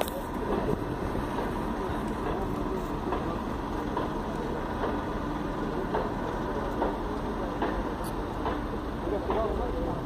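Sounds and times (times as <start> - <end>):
low rumble of cars running: 0.0 - 10.0.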